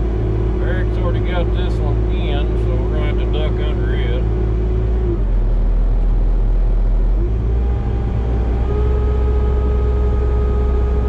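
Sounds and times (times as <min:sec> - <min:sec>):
skid steer engine running: 0:00.0 - 0:11.0
steady whine: 0:00.0 - 0:11.0.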